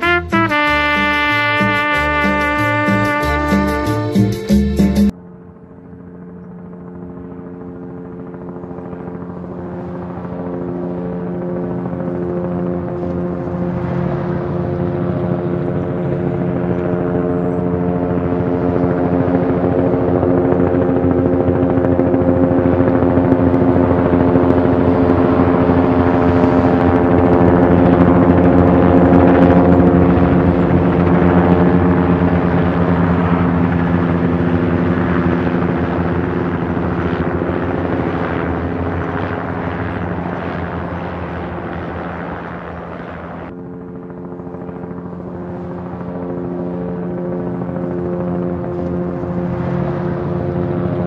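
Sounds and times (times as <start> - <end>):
helicopter rotor chop: 0.0 - 51.0.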